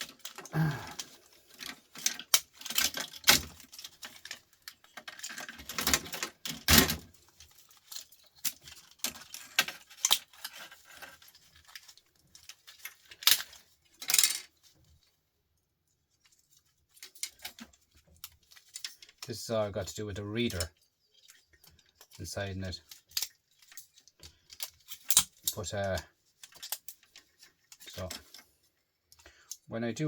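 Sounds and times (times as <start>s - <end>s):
small metal parts clinking: 0.0s - 14.7s, 16.2s - 29.7s.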